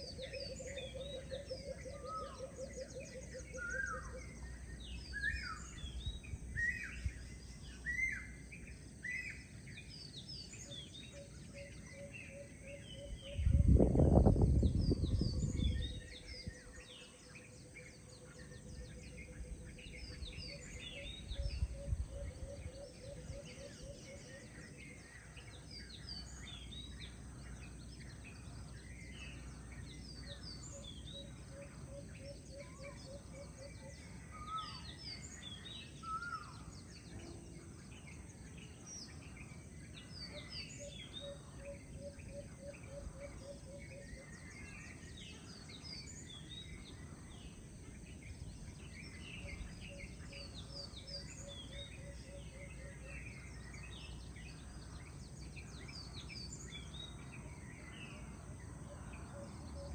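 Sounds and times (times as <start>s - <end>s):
birds chirping and whistling: 0.0s - 59.9s.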